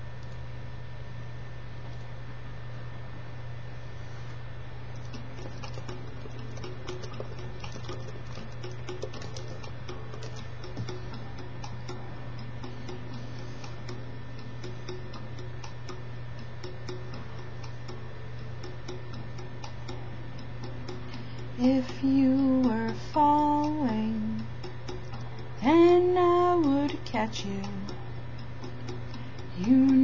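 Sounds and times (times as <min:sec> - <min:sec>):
steady low hum: 0:00.0 - 0:30.0
ticking beat: 0:05.0 - 0:30.0.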